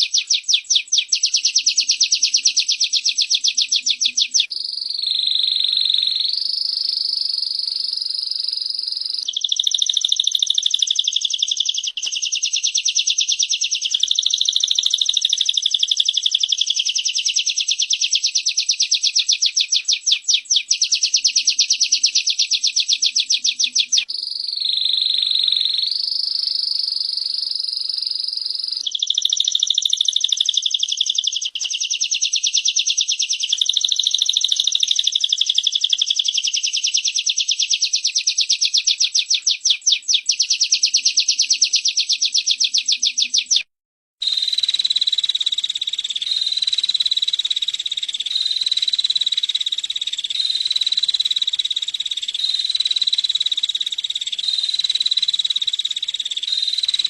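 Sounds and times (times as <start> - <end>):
rapid high-pitched ticking bird trill: 0.0 - 57.0.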